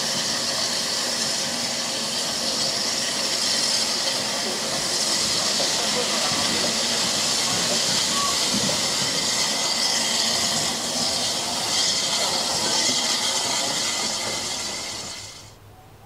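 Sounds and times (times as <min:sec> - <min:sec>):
steam hissing from locomotives: 0:00.0 - 0:16.0.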